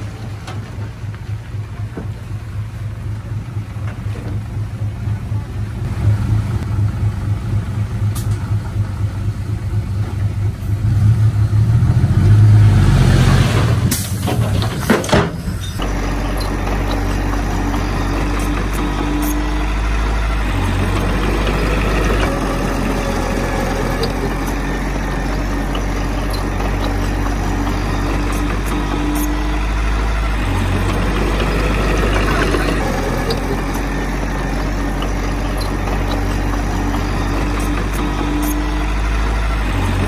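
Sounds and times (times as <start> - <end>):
heavy diesel engine throbbing: 0.0 - 40.0.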